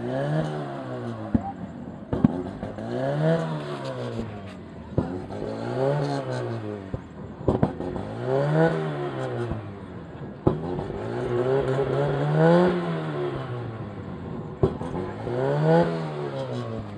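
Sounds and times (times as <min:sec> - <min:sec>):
car engine revving: 0:00.0 - 0:16.9
exhaust backfire bang: 0:00.8 - 0:16.0.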